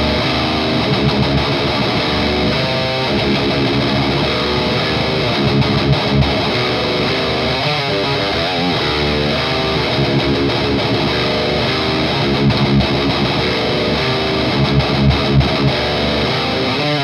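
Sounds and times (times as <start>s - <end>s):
distorted electric guitar riffing: 0.0s - 17.0s.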